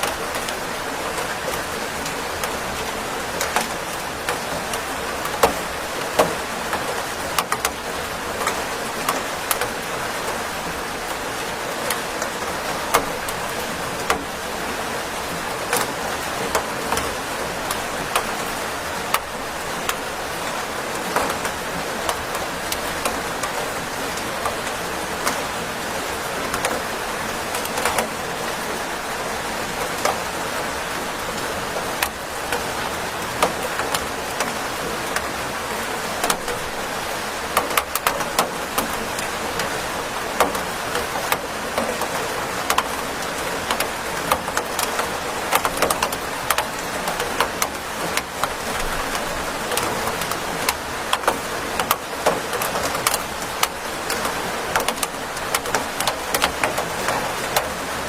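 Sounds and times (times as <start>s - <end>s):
raindrops tapping a surface: 0.0s - 58.0s
steady rain falling: 0.0s - 58.0s.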